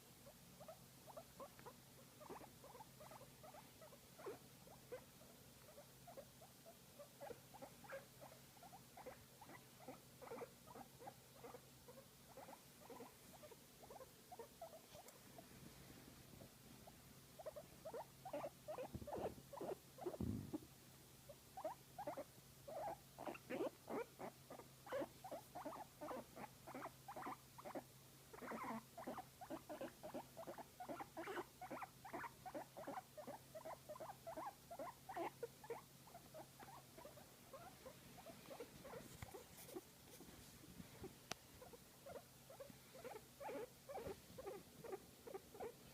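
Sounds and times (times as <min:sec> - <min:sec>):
guinea pig squeaking: 0:00.2 - 0:15.1, 0:16.4 - 0:20.6, 0:21.6 - 0:45.9.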